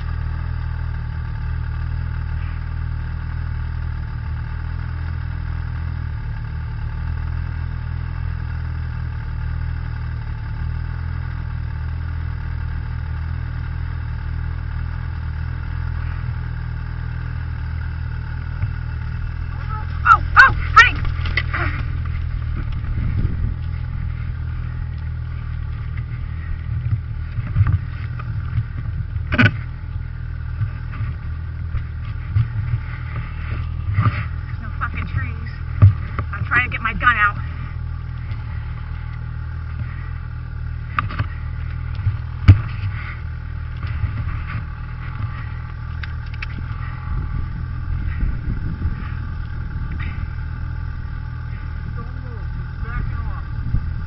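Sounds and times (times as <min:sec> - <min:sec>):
snowmobile engine idling: 0:00.0 - 0:54.0.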